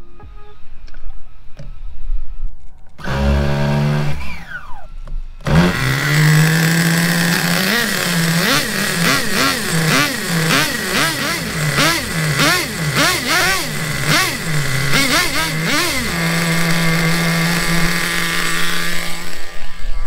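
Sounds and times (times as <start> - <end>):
engine cranking: 2.9 - 20.0
small engine buzzing and revving: 3.0 - 20.0.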